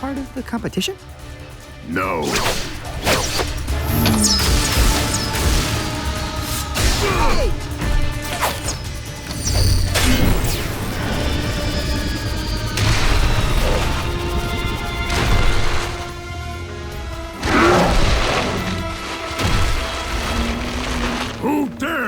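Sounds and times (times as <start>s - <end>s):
dramatic background music: 0.0s - 22.0s.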